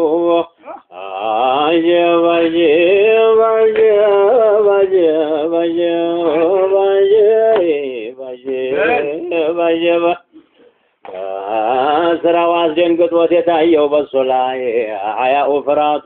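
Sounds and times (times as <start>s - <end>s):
man chanting devotional song: 0.0s - 10.4s, 11.1s - 16.0s.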